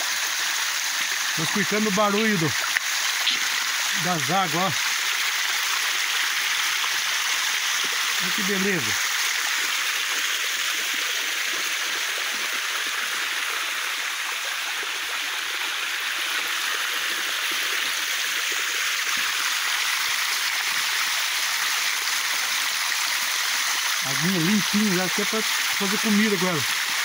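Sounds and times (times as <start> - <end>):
water rushing in stream: 0.0 - 27.0.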